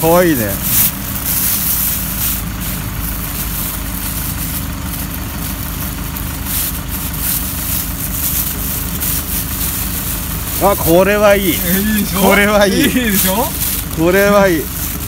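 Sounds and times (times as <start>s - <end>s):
plastic bags crinkling: 0.0s - 15.0s
vehicle engine idling: 0.0s - 15.0s.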